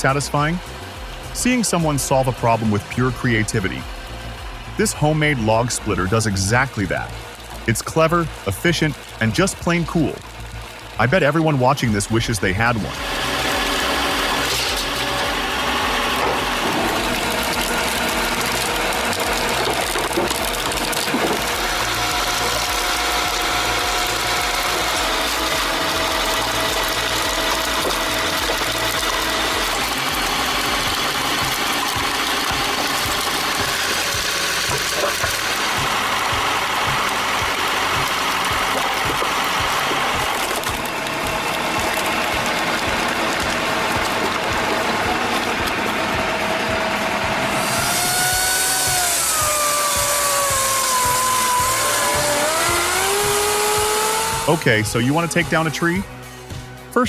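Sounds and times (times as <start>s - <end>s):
log splitter running: 0.0s - 57.0s.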